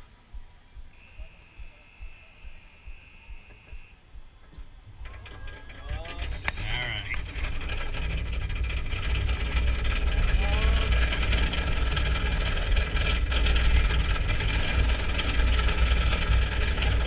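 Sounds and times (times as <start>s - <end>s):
faint mechanical clatter: 0.0s - 17.0s
roller coaster train rumbling: 0.0s - 17.0s.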